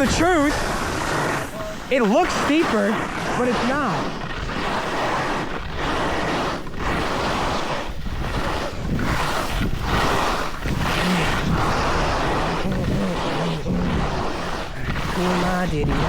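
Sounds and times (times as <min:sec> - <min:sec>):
skis scraping over snow: 0:00.0 - 0:16.0
wind rushing over microphone: 0:00.0 - 0:16.0.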